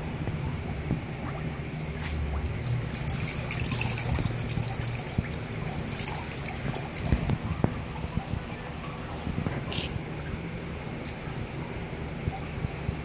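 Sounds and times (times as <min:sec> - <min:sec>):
steady low hum: 0:00.0 - 0:13.0
water trickling and splashing: 0:00.0 - 0:13.0.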